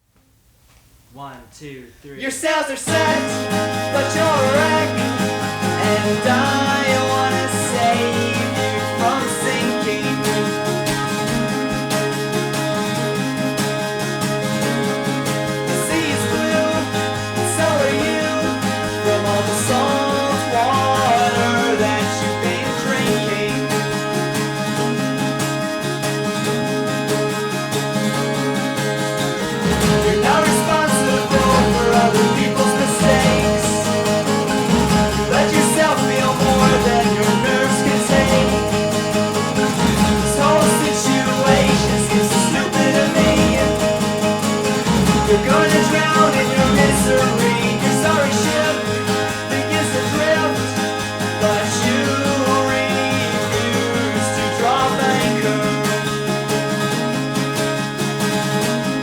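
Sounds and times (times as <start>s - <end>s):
guitar-led band music: 1.2s - 59.0s.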